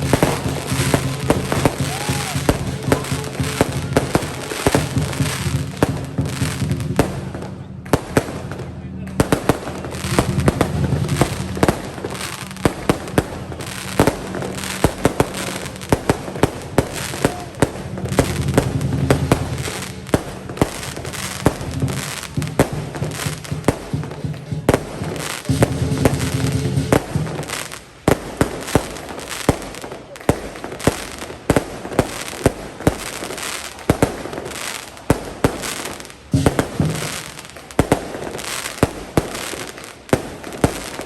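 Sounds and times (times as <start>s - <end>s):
firecrackers popping: 0.0s - 41.0s
lion dance percussion music: 0.0s - 41.0s.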